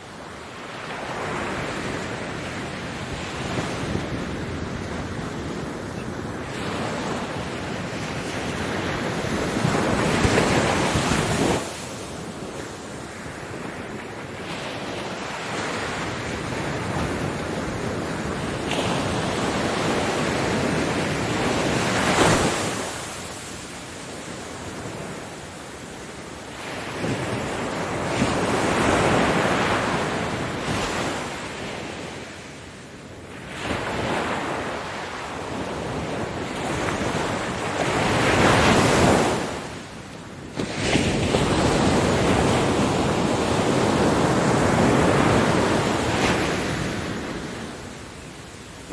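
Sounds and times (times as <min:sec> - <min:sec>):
ocean waves breaking: 0:00.0 - 0:48.9
wind buffeting microphone: 0:00.0 - 0:48.9.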